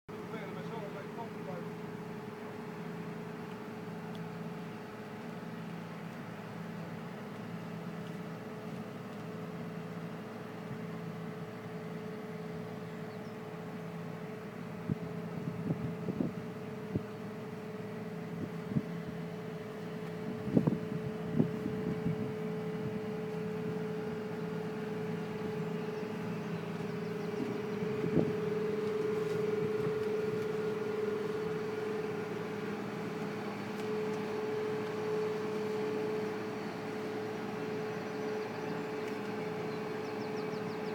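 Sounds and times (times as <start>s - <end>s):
machine engine humming: 0.1s - 40.9s.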